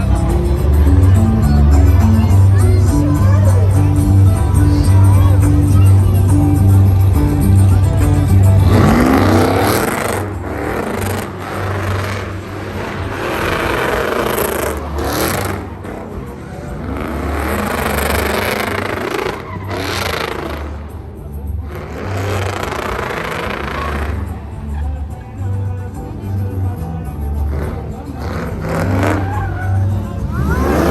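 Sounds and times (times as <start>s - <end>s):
music with pulsing bass: 0.0s - 30.9s
truck engines revving: 0.0s - 30.9s.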